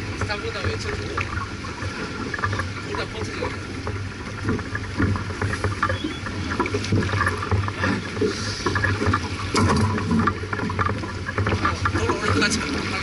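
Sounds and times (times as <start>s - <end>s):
low thuds from the boat: 0.0s - 13.0s
sharp knocks from the boat: 0.0s - 13.0s
water rushing past boat: 0.0s - 13.0s
wind: 0.0s - 13.0s.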